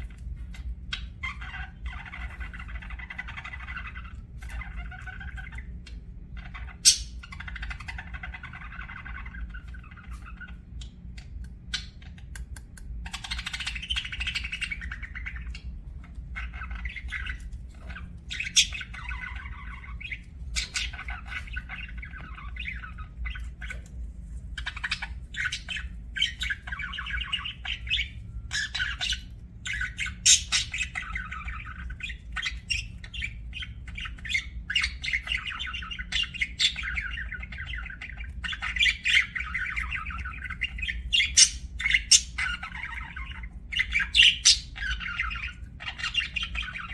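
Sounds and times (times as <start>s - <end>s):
bird squawks: 0.0s - 11.0s, 13.0s - 23.8s, 24.6s - 46.9s
budgerigars chattering: 0.0s - 12.3s, 13.0s - 23.9s, 24.5s - 46.9s
steady low hum: 0.0s - 46.9s.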